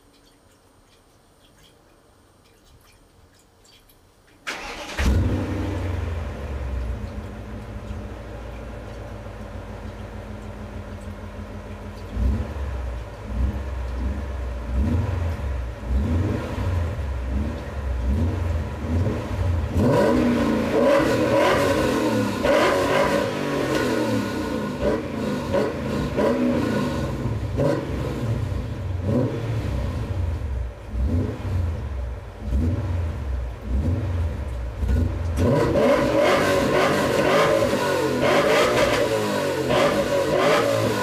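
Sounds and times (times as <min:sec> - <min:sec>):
car engine idling and revving: 0:04.5 - 0:41.0.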